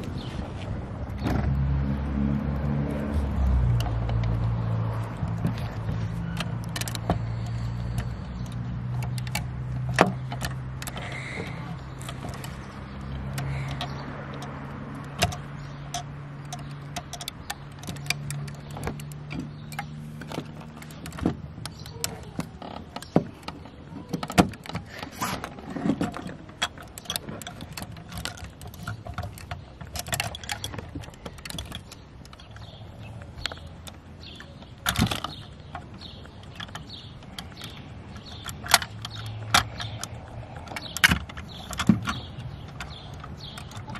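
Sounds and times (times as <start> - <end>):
toy truck clicking and clattering: 3.7 - 43.9.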